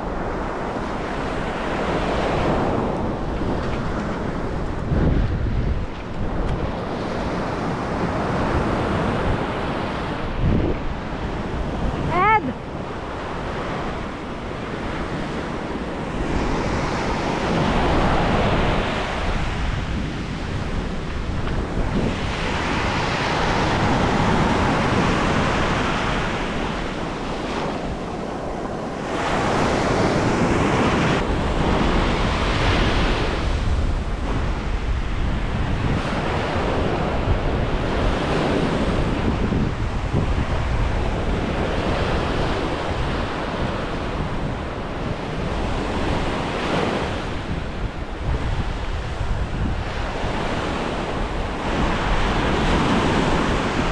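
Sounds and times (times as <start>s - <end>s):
ocean surf breaking: 0.0s - 53.9s
wind buffeting microphone: 0.0s - 53.9s.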